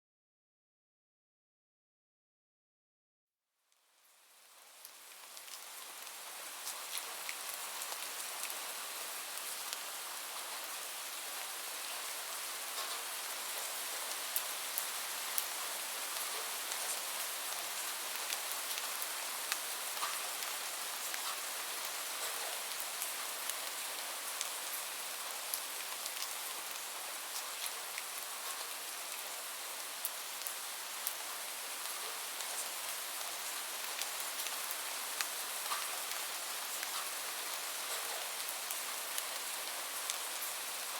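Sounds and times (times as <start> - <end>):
light rain hissing: 3.7 - 40.9
raindrops ticking on a surface: 3.7 - 40.9.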